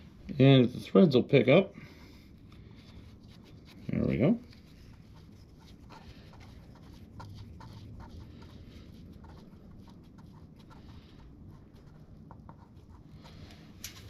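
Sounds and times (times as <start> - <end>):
low room rumble: 0.0 - 14.0.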